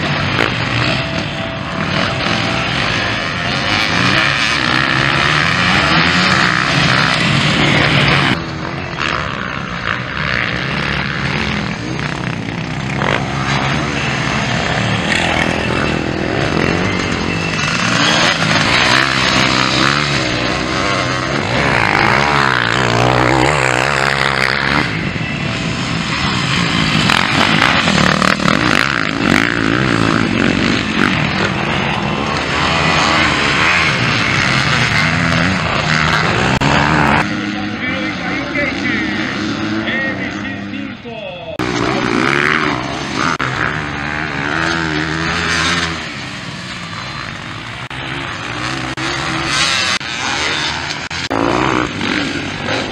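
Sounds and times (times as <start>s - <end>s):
dirt bikes revving: 0.0s - 52.9s.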